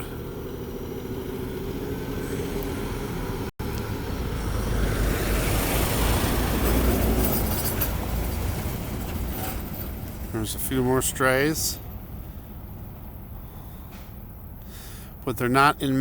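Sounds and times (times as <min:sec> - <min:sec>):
vehicle passing: 0:00.0 - 0:14.6.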